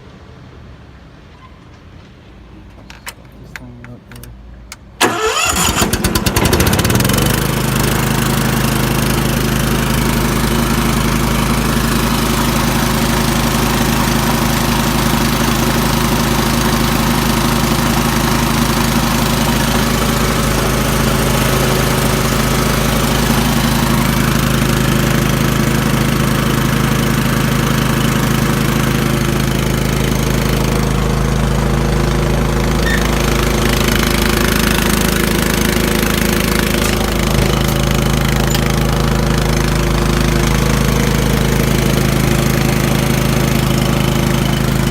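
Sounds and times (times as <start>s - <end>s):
small engine running: 5.0s - 44.9s.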